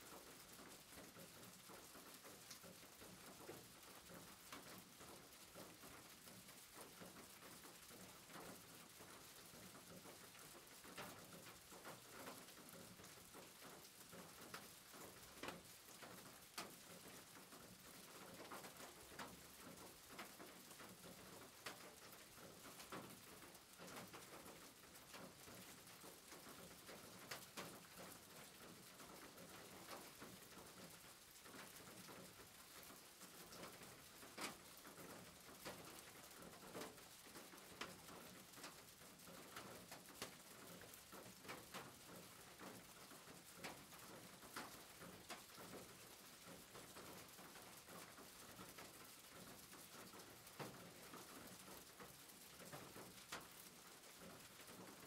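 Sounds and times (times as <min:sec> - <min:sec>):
rain on a roof: 0:00.0 - 0:55.0
raindrops ticking: 0:00.0 - 0:55.0.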